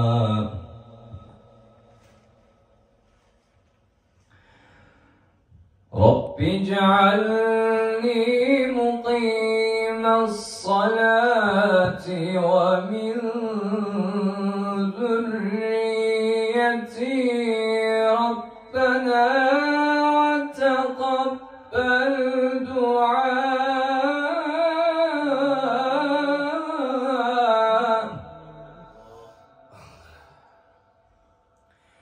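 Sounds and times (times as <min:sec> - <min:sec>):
man reciting melodically: 0:00.0 - 0:01.8, 0:05.9 - 0:29.9.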